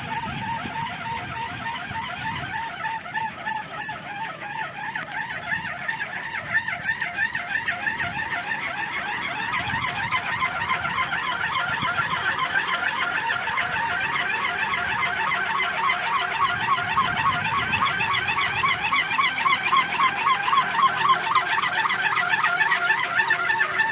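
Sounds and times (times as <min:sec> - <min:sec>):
strong wind: 0:00.0 - 0:21.3
wind propeller warbling hum: 0:00.0 - 0:23.9.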